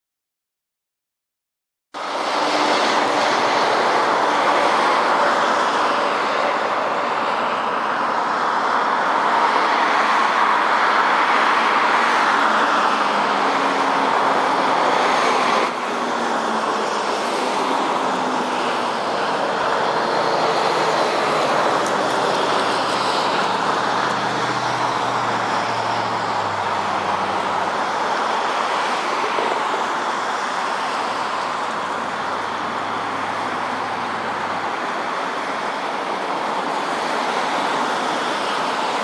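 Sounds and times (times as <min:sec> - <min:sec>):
airliner engine roar: 0:02.0 - 0:39.0
road traffic: 0:02.0 - 0:39.0.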